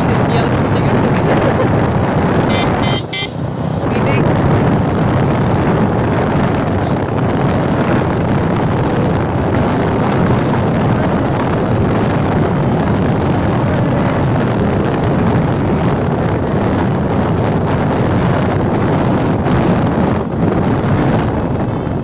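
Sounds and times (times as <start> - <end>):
motorcycle road and engine noise: 0.0 - 22.0
wind buffeting microphone: 0.0 - 22.0.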